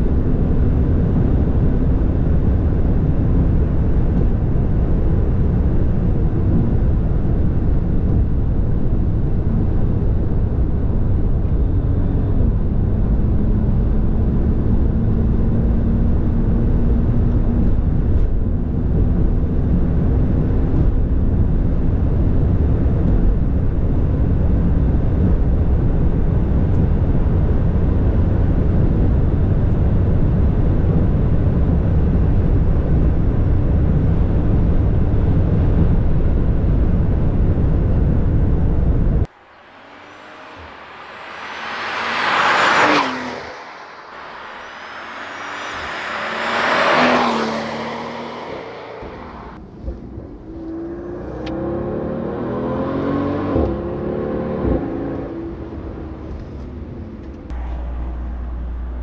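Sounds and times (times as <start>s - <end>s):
car engine drone: 0.0s - 59.0s
wind and road noise: 0.0s - 59.0s.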